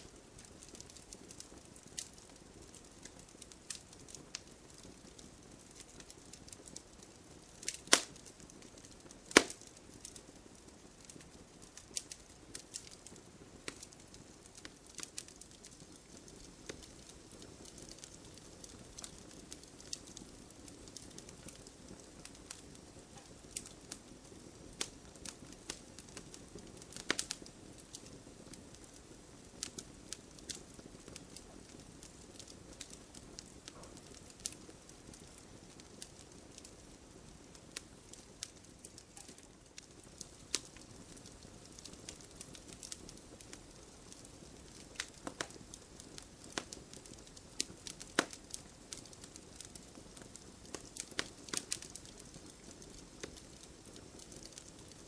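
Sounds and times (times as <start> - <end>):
fire pops and snaps: 0.0 - 55.0
wood fire crackling: 0.0 - 55.0.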